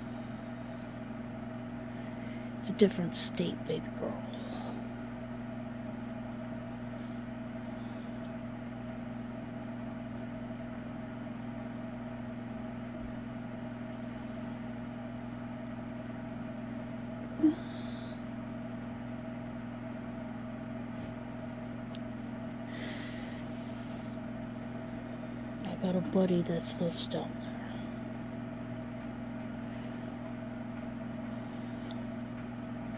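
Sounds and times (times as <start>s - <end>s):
low motor hum: 0.0s - 32.9s.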